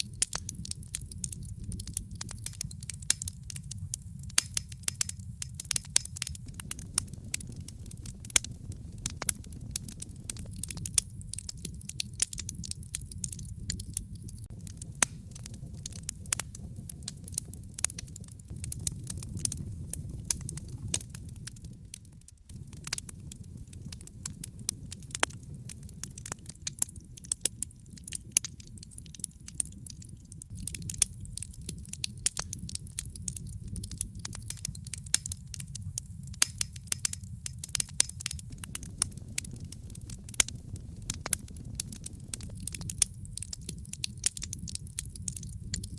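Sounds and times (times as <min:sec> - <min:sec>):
low steady rumble: 0:00.0 - 0:27.9, 0:30.4 - 0:45.9
wood fire crackling: 0:00.0 - 0:45.9.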